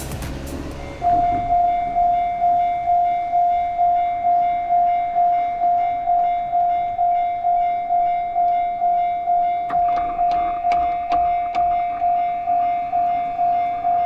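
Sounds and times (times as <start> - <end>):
level crossing warning bell: 0.1 - 14.0.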